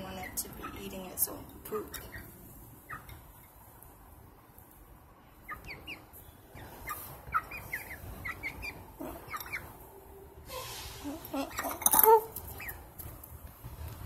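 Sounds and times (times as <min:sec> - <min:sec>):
hens chirping softly: 0:00.1 - 0:13.2.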